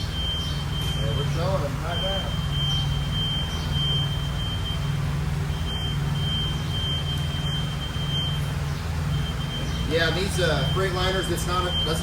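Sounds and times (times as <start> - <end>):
high-pitched electronic beep tone: 0.0 - 12.0
low mechanical hum: 0.0 - 12.0.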